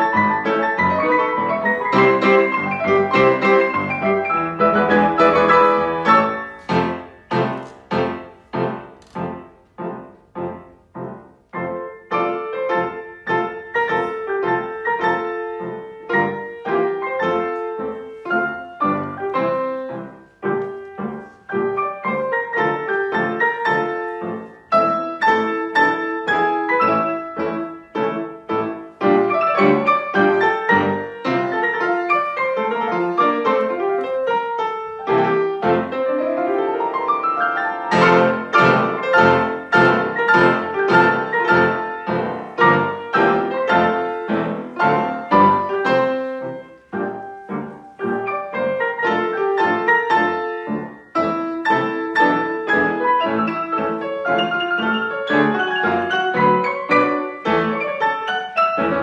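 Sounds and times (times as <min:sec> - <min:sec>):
grand piano playing: 0:00.0 - 0:59.0.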